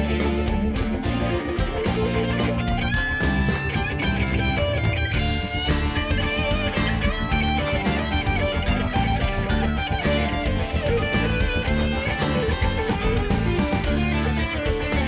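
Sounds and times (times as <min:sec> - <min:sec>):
guitar-led rock music: 0:00.0 - 0:15.0.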